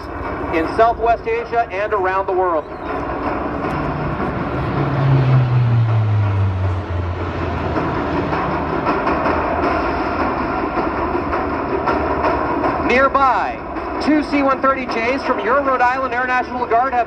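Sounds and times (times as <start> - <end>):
helicopter flying past: 0.0 - 17.0
steady rushing noise: 0.0 - 17.0.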